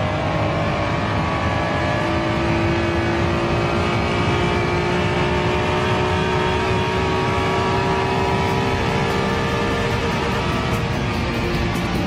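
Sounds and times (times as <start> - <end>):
car engine revving at full throttle: 0.0 - 12.0.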